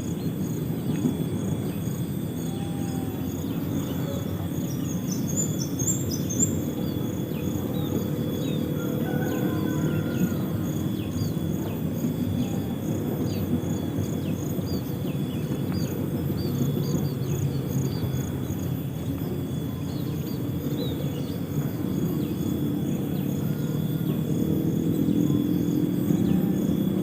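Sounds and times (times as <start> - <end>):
insects chirping: 0.0 - 27.0
loud steady low noise: 0.0 - 27.0.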